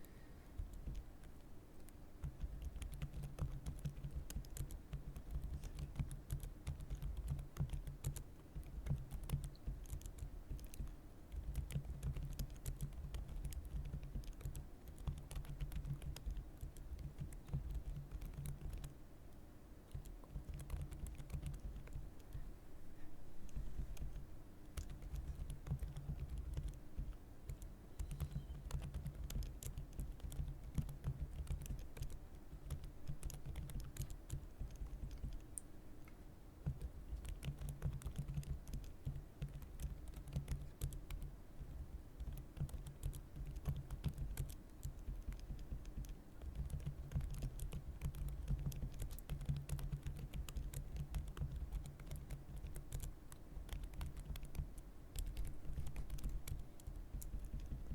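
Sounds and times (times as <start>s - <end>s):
typing on computer keyboard: 0.6s - 19.0s, 19.9s - 22.4s, 23.5s - 35.7s, 36.6s - 57.9s.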